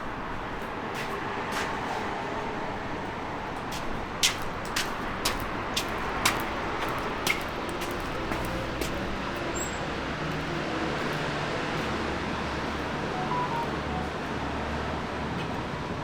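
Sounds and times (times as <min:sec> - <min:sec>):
constant mechanical noise: 0:00.0 - 0:16.0.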